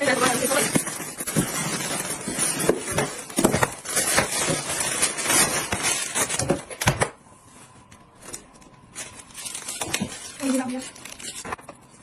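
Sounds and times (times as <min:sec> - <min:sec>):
packaging rustling: 0:00.0 - 0:06.9, 0:08.2 - 0:12.0.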